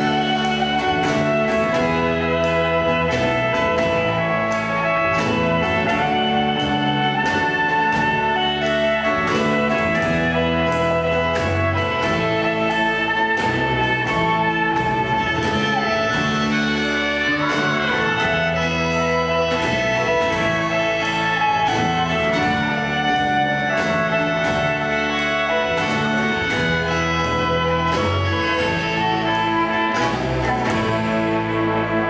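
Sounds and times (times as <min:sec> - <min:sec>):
acoustic and electric guitars: 0:00.0 - 0:32.0
bass guitar: 0:00.0 - 0:32.0
drums: 0:00.0 - 0:32.0
fiddle: 0:00.0 - 0:32.0.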